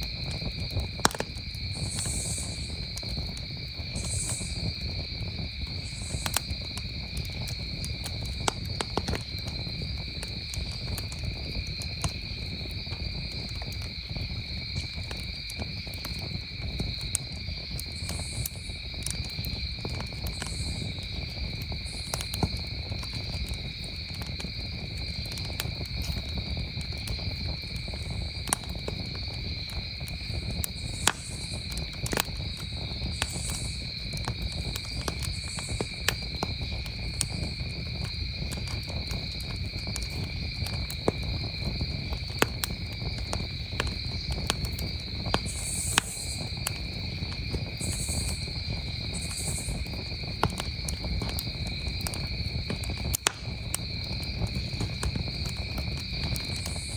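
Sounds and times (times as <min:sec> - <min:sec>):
campfire crackling: 0:00.0 - 0:56.9
crickets chirring: 0:00.0 - 0:56.9.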